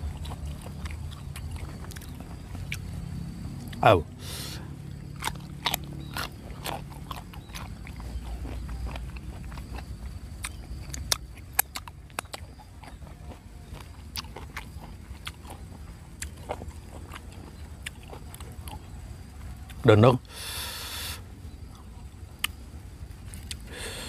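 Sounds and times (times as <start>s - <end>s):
chewing crunchy fruit: 0.0s - 24.0s.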